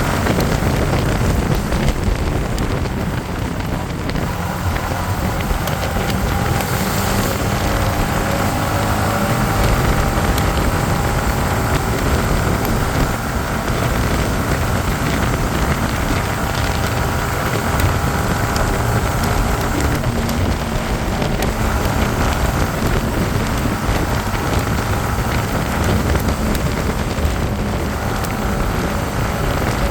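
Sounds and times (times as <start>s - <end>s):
motorcycle engine drone: 0.0s - 29.9s
wind rushing across microphone: 0.0s - 29.9s.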